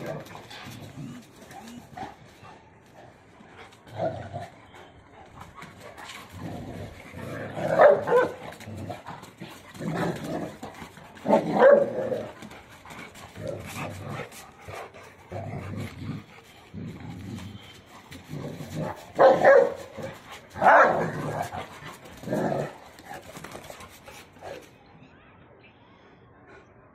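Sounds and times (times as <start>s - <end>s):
dogs barking in play: 0.0s - 24.7s.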